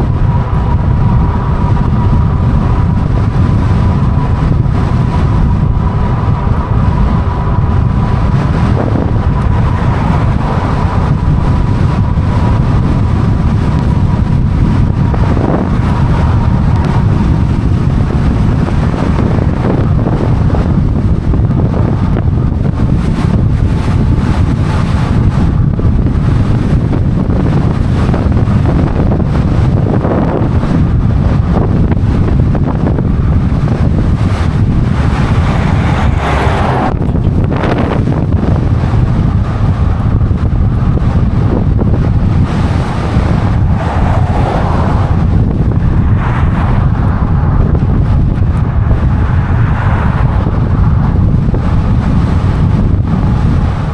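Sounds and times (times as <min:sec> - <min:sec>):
bike ride noise: 0:00.0 - 0:53.9
wind buffeting microphone: 0:00.0 - 0:53.9.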